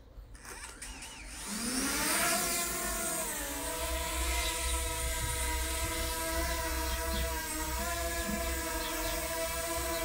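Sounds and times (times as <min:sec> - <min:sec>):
drone propellers whining: 0:00.4 - 0:10.0.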